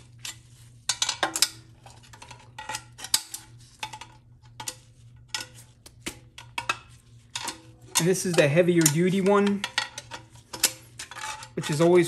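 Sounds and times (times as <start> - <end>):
metallic clicks and scrapes: 0.0 - 12.0.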